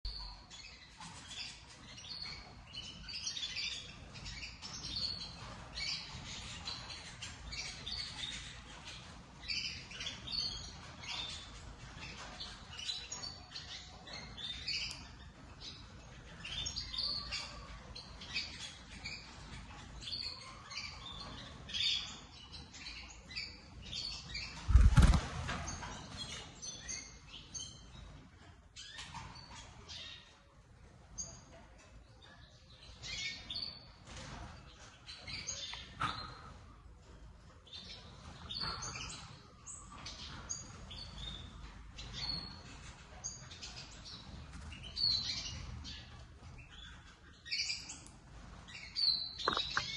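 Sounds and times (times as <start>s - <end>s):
canary chirping: 0.0s - 49.9s.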